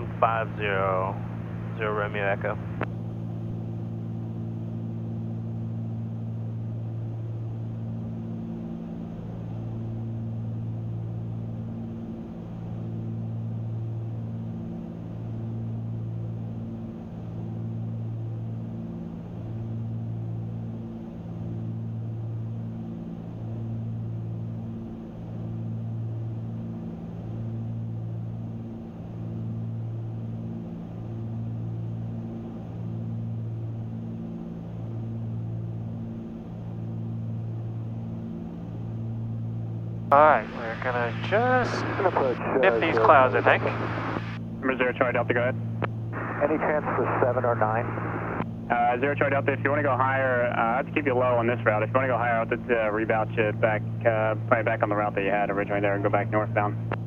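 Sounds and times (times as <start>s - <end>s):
twin propeller plane cabin drone: 0.0s - 57.0s.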